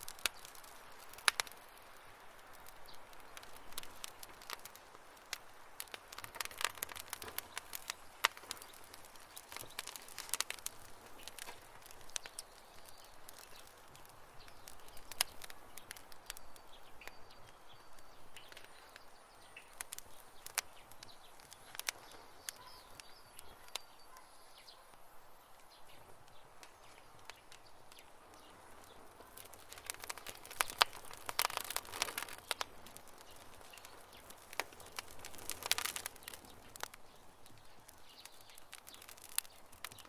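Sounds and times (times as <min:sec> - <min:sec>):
campfire crackling: 0:00.0 - 0:40.0.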